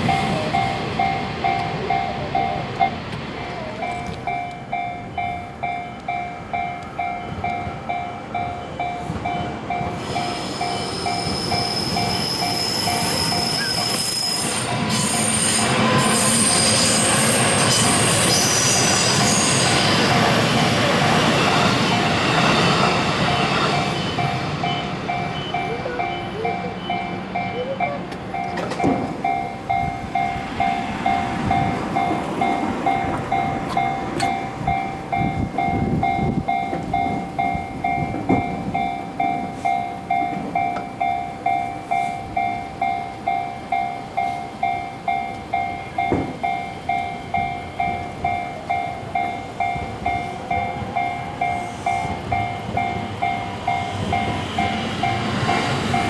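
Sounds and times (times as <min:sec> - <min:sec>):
passing train rumble and clatter: 0:00.0 - 0:56.0
railroad crossing bell dinging: 0:00.0 - 0:56.0.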